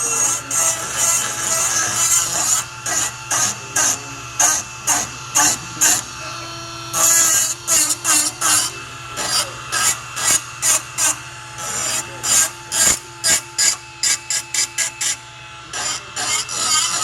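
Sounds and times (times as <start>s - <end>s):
die grinder cutting metal: 0.0s - 17.0s.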